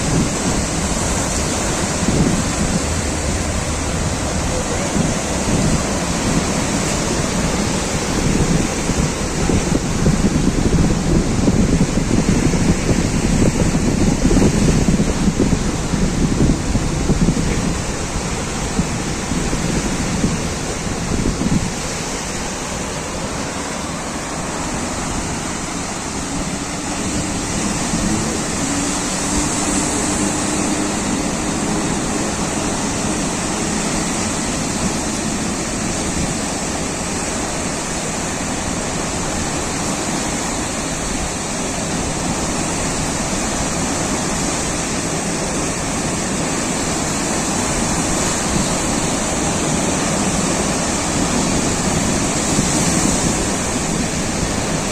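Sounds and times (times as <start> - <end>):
sea waves and surf: 0.0 - 54.9
wind gusts on microphone: 0.0 - 54.9.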